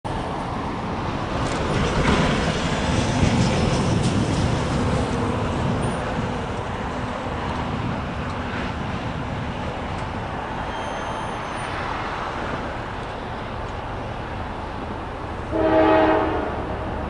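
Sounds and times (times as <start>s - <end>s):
freight train cars rumbling on rails: 0.1s - 17.0s.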